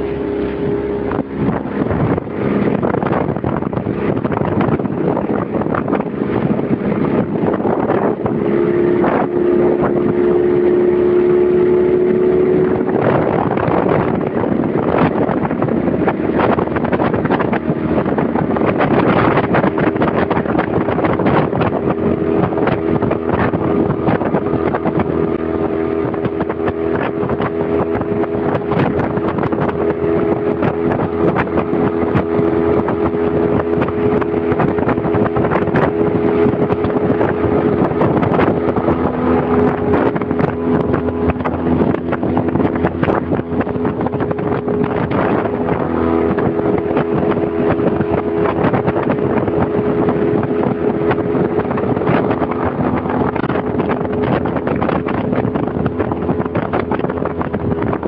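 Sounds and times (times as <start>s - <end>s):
outboard motor running fast: 0.0s - 58.0s
water rushing: 0.0s - 58.0s.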